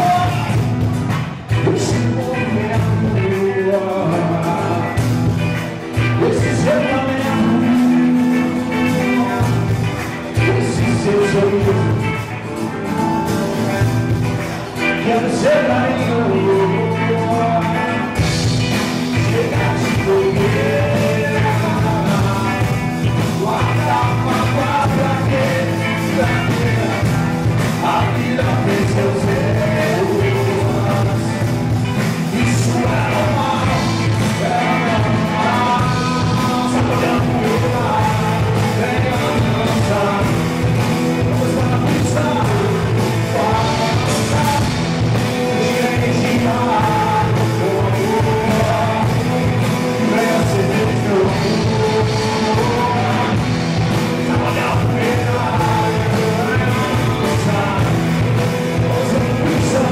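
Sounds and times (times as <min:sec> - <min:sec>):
lead singer singing: 0:00.0 - 0:59.9
live rock band: 0:00.0 - 0:59.9.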